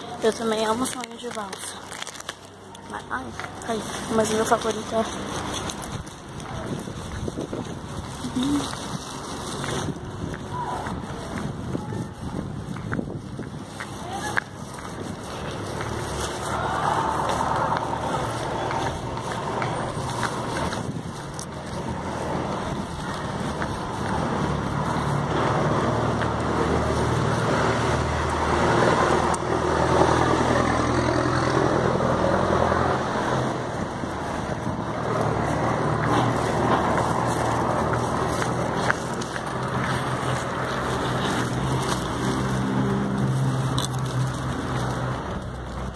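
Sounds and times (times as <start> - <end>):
street traffic noise: 0.0 - 45.9
vehicle engine running nearby: 2.2 - 45.9.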